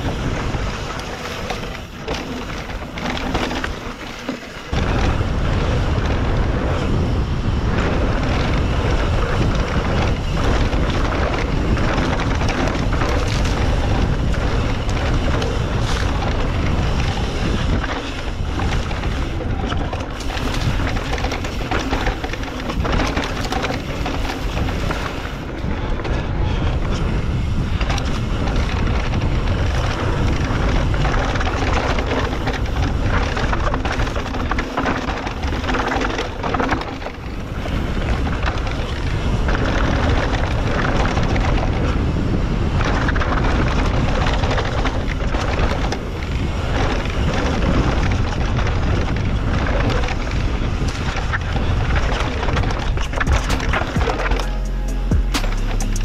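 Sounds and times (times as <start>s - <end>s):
wind rushing over microphone: 0.0s - 54.4s
bike knocks and rattles: 0.0s - 56.0s.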